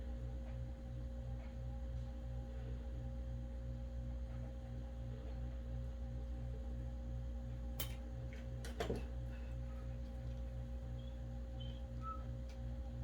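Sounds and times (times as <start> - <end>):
machine hum with low throb: 0.0 - 13.0.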